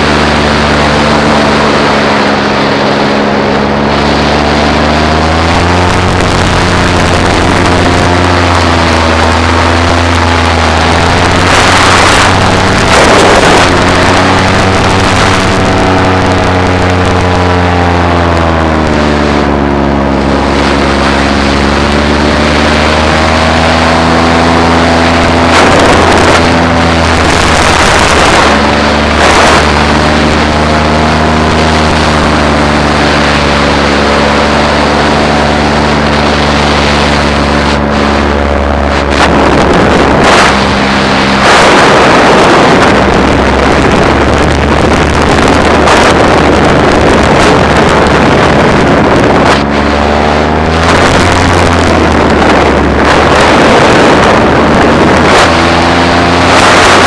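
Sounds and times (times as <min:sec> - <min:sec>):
paramotor engine running: 0:00.0 - 0:57.0
wind buffeting microphone: 0:00.0 - 0:57.0.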